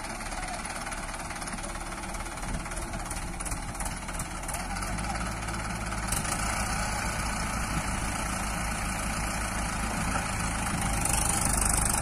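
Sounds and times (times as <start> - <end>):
backhoe running: 0.0 - 12.0
tractor diesel engine: 0.0 - 12.0.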